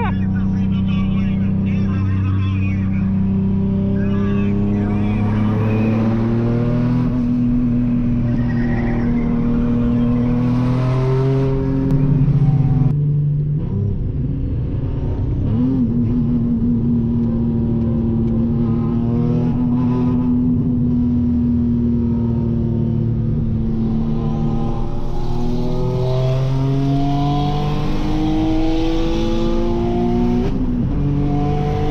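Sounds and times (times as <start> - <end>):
car engine drone from cabin: 0.0 - 31.9.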